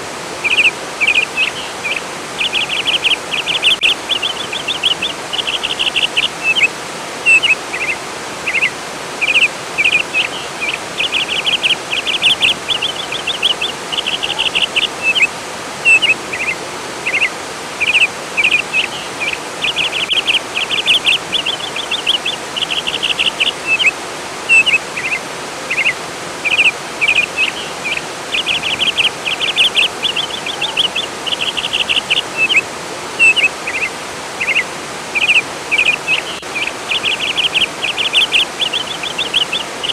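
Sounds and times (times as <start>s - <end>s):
songbirds singing: 0.0s - 39.9s
water rushing: 0.0s - 39.9s.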